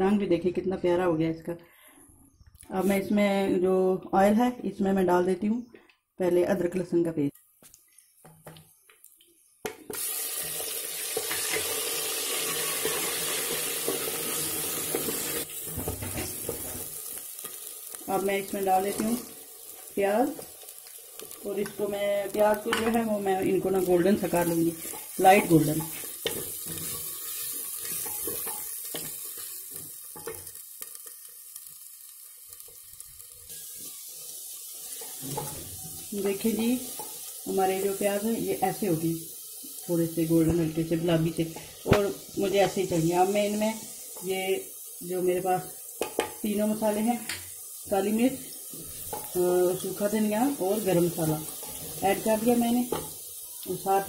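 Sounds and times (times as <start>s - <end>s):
paste sizzling in hot oil: 9.9s - 54.0s.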